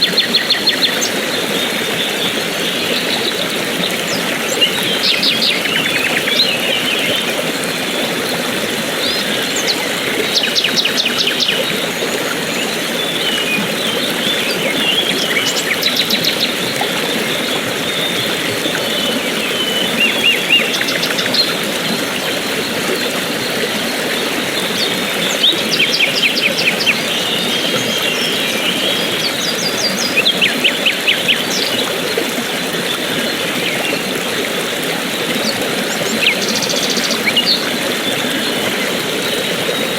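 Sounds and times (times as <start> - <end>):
birds chirping: 0.0 - 39.9
running water rushing: 0.0 - 39.9.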